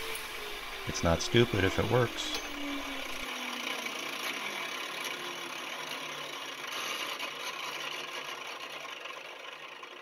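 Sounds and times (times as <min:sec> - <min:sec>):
angle grinder disc spinning down: 0:00.0 - 0:10.0.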